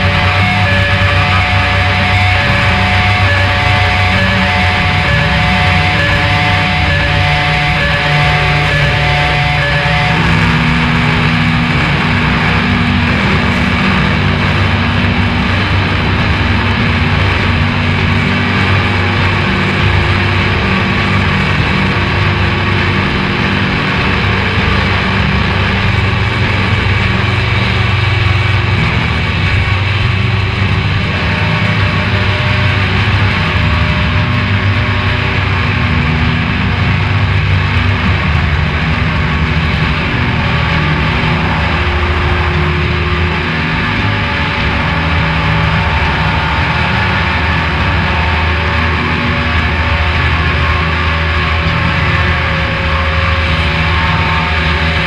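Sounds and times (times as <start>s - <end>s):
distorted guitar drone: 0.0s - 55.0s.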